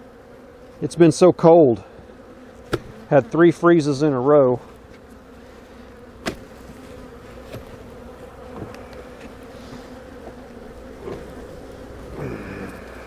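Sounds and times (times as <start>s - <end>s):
bee flying past: 0.0s - 13.0s
bees buzzing: 0.0s - 13.0s.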